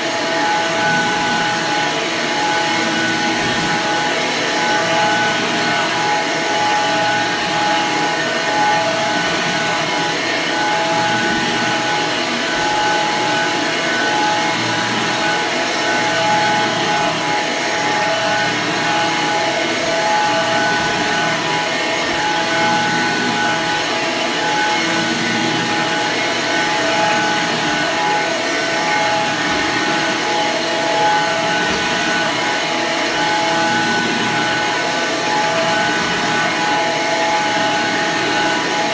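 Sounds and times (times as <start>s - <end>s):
vacuum cleaner motor running: 0.0s - 38.9s.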